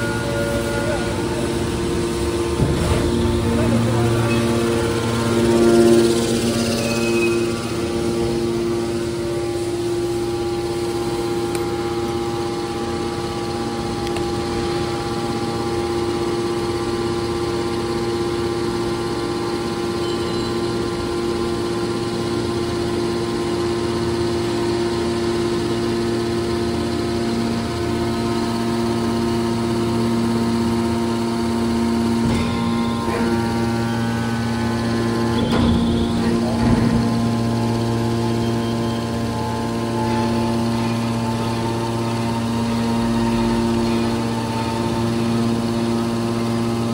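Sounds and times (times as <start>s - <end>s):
hydraulic pump motor humming: 0.0s - 46.9s.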